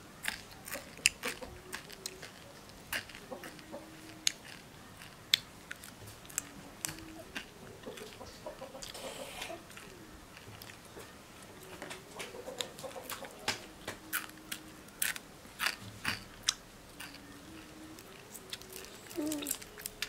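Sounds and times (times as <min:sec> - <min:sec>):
chewing with crunches: 0:00.2 - 0:20.0.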